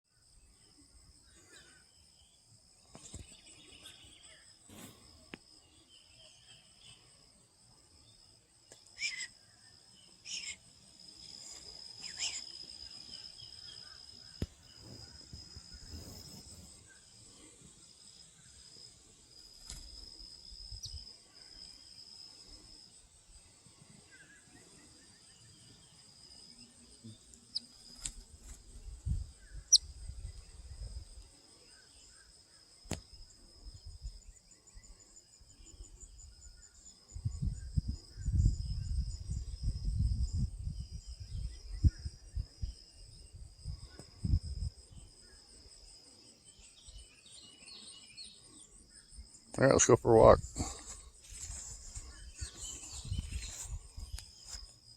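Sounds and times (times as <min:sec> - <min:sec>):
insects trilling: 0:00.1 - 0:54.9.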